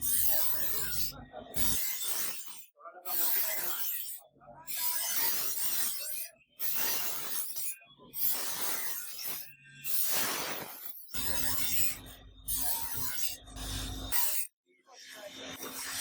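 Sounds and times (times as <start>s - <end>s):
knife scraping metal: 0.0s - 14.6s.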